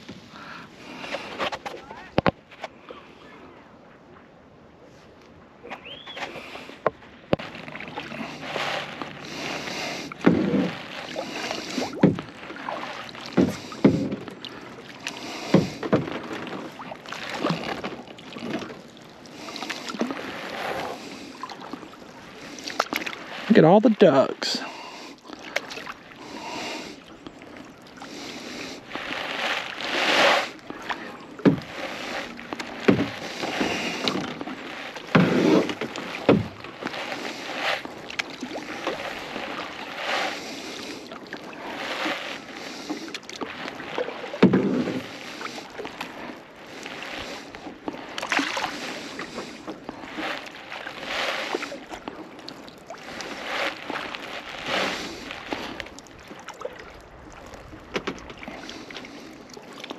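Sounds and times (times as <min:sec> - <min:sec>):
paddle splashing through water: 0:00.0 - 0:03.4, 0:05.6 - 0:59.9.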